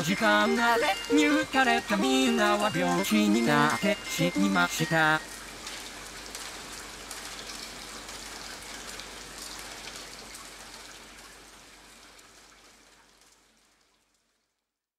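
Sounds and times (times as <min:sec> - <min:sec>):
steady rain falling: 0:00.0 - 0:14.8.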